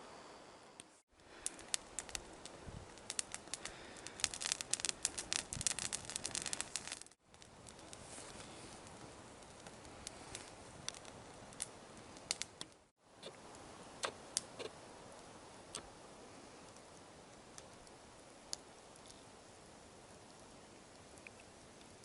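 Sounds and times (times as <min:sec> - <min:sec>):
steady low hiss: 0:00.0 - 0:22.0
campfire crackling and popping: 0:00.8 - 0:22.0.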